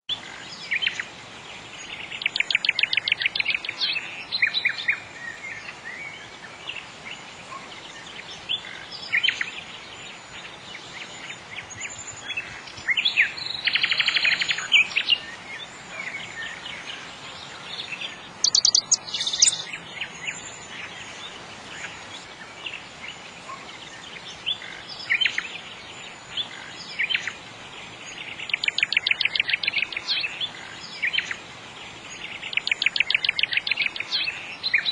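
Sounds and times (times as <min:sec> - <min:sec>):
nightingale singing trills: 0:00.1 - 0:34.9.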